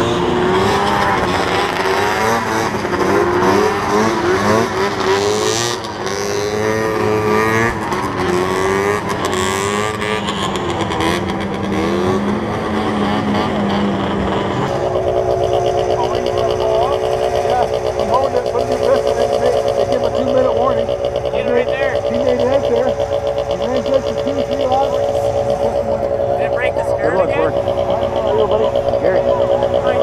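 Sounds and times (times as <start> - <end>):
snowmobile engine running steadily: 0.0 - 30.0
snowmobile engines revving: 0.0 - 30.0.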